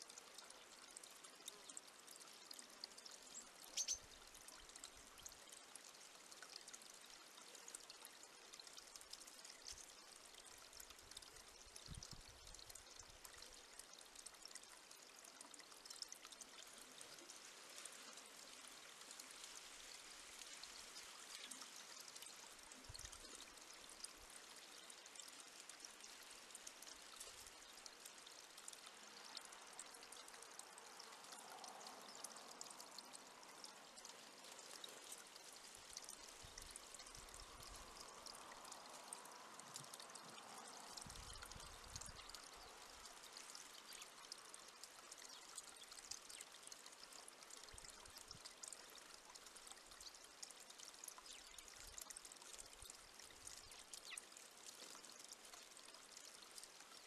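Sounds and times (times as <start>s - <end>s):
faint hiss with tiny ticks: 0.0s - 57.0s.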